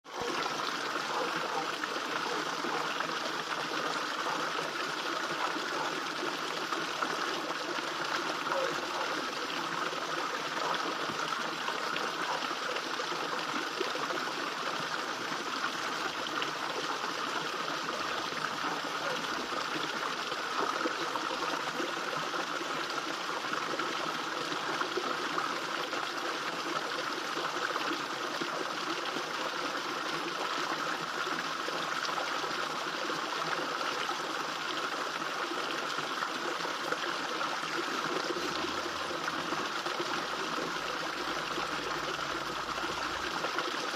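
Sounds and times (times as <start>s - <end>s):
small waterfall into pond: 0.0s - 43.9s.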